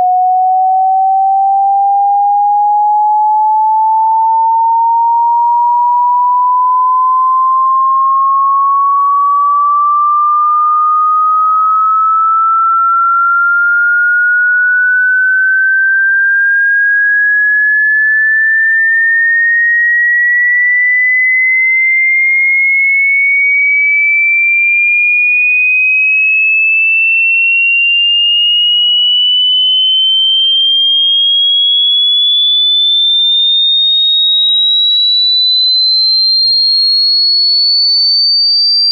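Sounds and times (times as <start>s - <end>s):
rising sine tone sweep: 0.0s - 38.9s.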